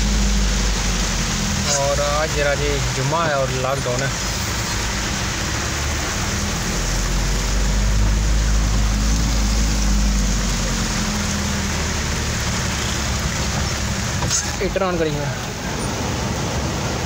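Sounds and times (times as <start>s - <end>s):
car engine and tyre hum: 0.0s - 17.0s
heavy rain drumming on car roof: 0.0s - 17.0s.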